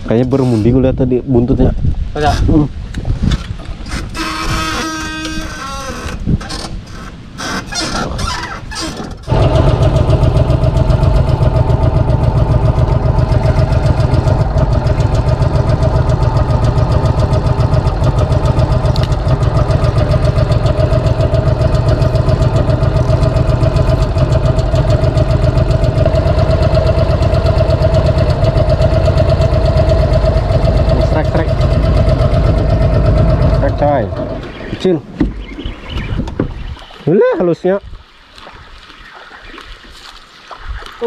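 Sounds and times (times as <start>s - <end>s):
boat motor running: 3.7s - 36.7s.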